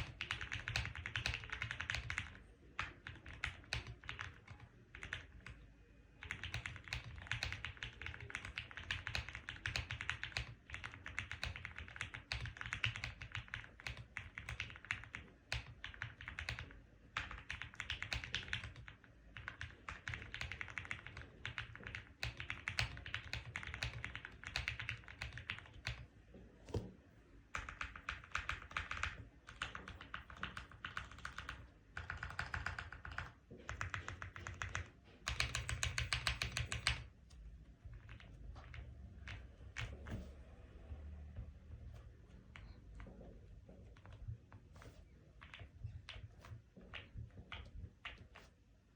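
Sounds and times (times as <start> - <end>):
fast typing on mechanical keyboard: 0.0 - 5.6, 6.2 - 26.1, 27.5 - 37.1, 37.9 - 40.2, 44.8 - 48.6.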